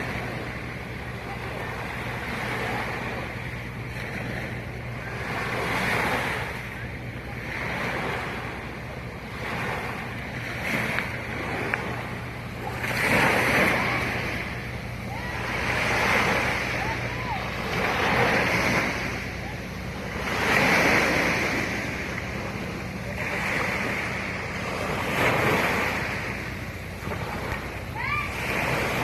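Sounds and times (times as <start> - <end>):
low hum: 0.0 - 29.0
sea waves breaking: 0.0 - 29.0.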